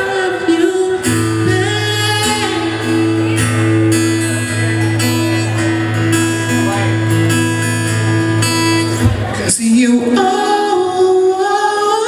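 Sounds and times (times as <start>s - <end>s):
man singing: 0.0s - 7.1s, 9.3s - 12.0s
strummed acoustic guitar: 0.0s - 12.0s.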